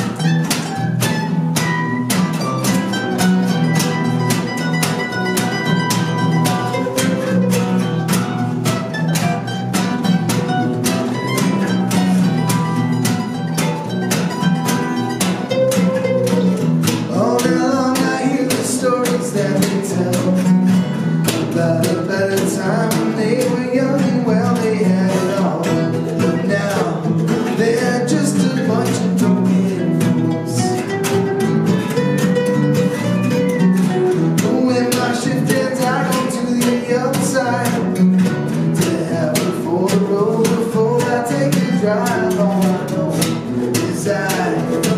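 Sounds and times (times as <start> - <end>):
acoustic guitar strumming: 0.0 - 44.9
plucked bass line: 0.0 - 44.9.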